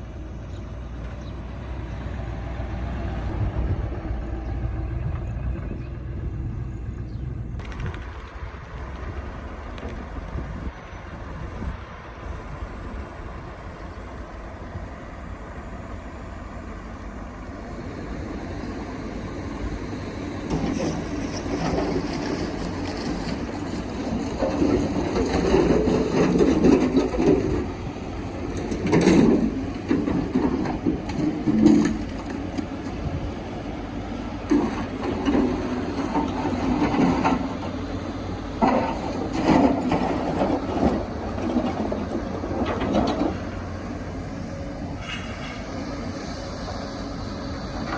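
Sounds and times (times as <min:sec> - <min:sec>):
excavator engine under load: 0:00.0 - 0:47.9.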